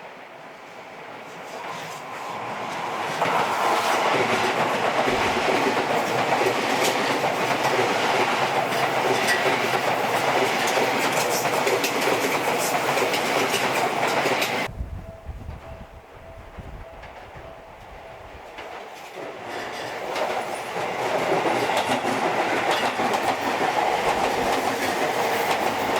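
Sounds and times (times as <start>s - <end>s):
electric train passing close by: 0.0s - 25.9s.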